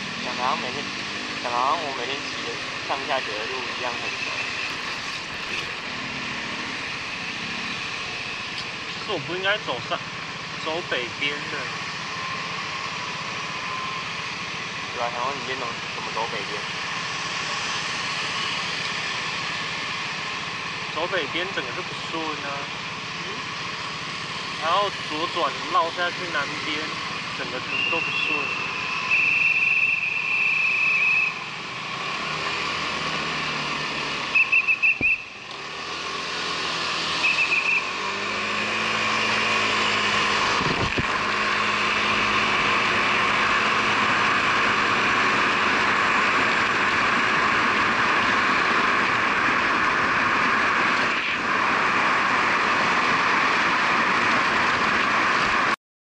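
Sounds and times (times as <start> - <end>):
motorcycle engine: 0.0 - 55.8
wind and road noise: 0.0 - 55.8.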